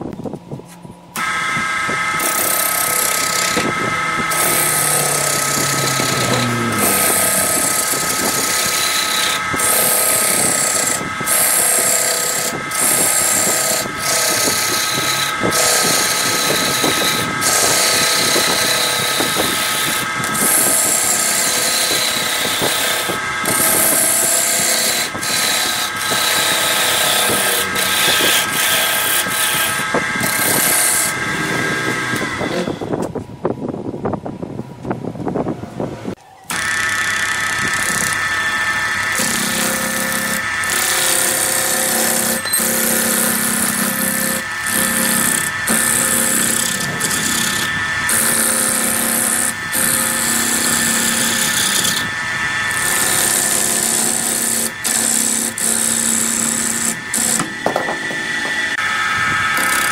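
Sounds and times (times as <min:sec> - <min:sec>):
lathe motor whine: 0:00.1 - 0:33.3, 0:35.3 - 0:59.9
chattering wood cutting noise: 0:01.1 - 0:33.1, 0:36.4 - 0:59.9.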